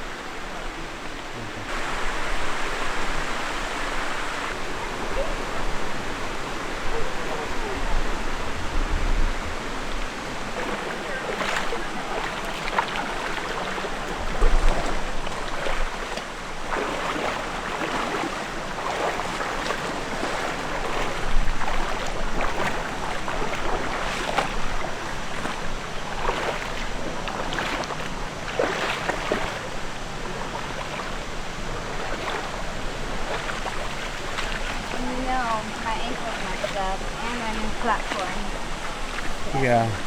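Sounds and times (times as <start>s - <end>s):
stream water rushing: 0.0s - 40.0s
water splashes: 0.0s - 40.0s.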